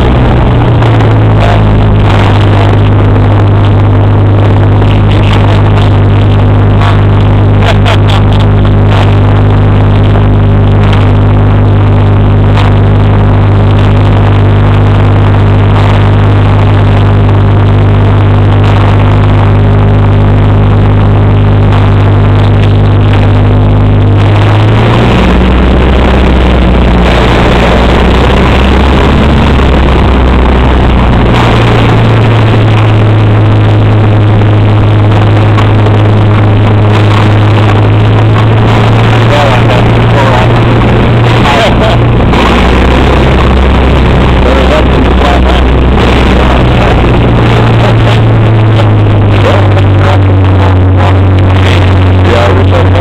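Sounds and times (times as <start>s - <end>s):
propeller plane engine running: 0.0s - 53.0s.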